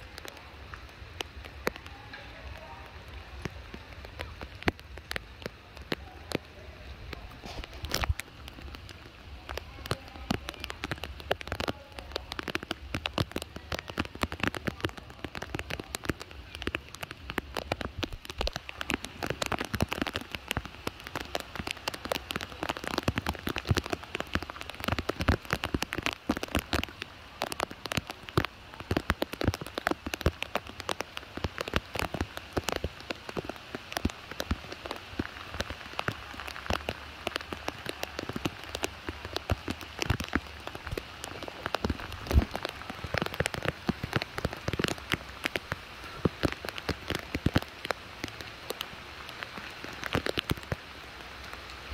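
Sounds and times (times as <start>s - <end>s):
rain falling on puddles: 0.0s - 51.9s
raindrops tapping: 0.0s - 51.9s.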